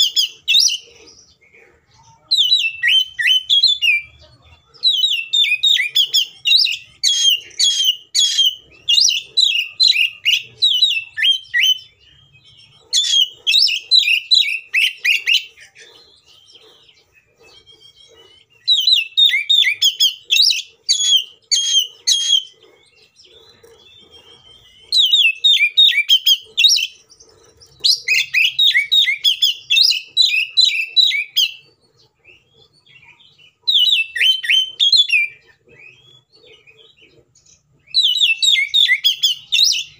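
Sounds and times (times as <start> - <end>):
bird singing rapid high notes: 4.8 - 39.9.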